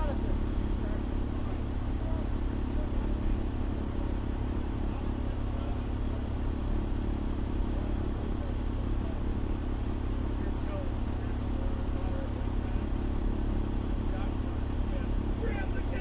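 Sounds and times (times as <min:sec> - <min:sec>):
fire engine running: 0:00.0 - 0:16.0.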